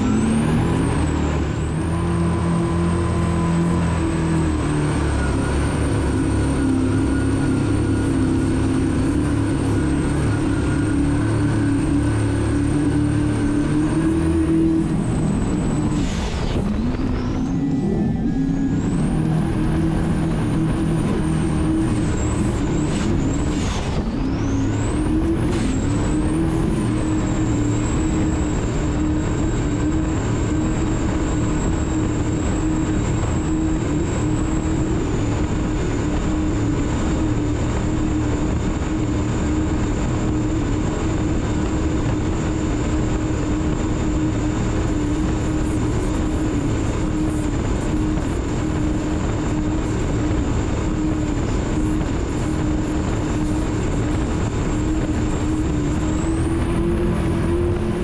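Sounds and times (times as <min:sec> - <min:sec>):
powerboat engines droning: 0:00.0 - 0:58.0.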